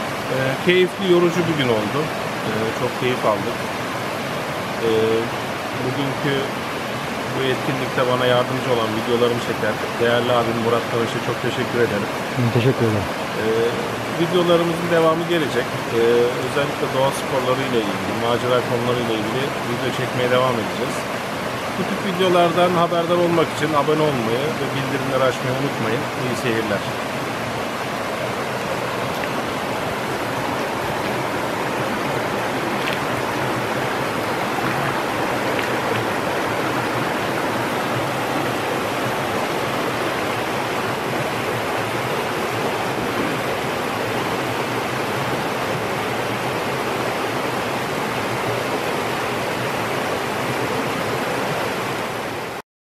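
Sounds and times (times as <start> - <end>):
waterfall pouring into pool: 0.0 - 52.6.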